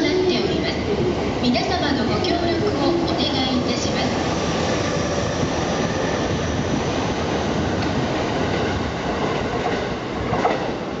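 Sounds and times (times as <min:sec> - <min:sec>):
train wheels rolling on rails: 0:00.5 - 0:11.0.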